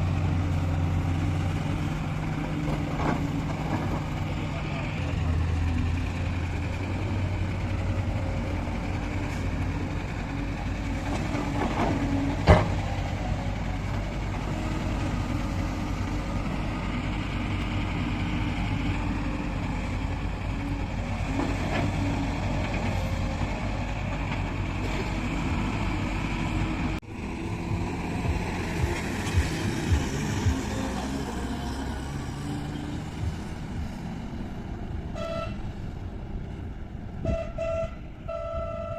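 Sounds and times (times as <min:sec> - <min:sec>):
heavy diesel engine running: 0:00.0 - 0:37.4.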